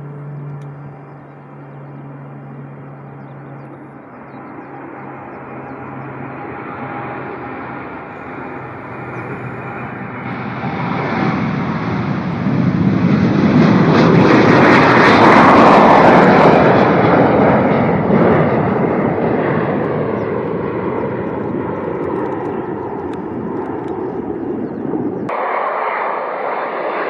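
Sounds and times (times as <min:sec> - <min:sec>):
jet airliner passing: 0:00.0 - 0:27.0.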